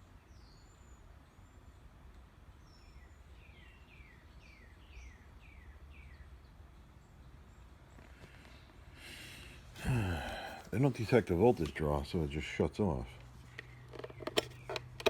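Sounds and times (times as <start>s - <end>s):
birdsong: 0.0s - 15.0s
low steady hum: 0.0s - 15.0s.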